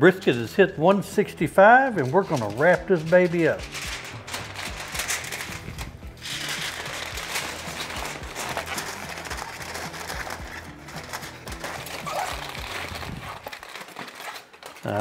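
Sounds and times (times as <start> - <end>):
background music: 0.0 - 15.0
aluminium foil crinkling: 1.2 - 15.0.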